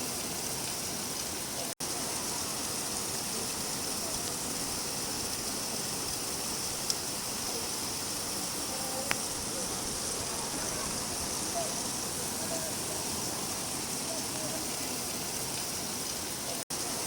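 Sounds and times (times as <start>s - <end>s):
steady rain hissing: 0.0s - 17.0s.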